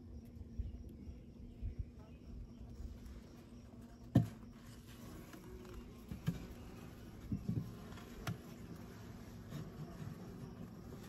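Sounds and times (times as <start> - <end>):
honey bees humming: 0.3 - 11.0.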